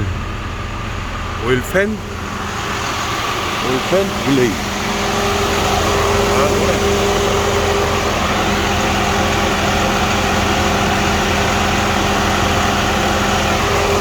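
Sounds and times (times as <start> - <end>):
truck diesel engine idling: 0.0 - 14.0.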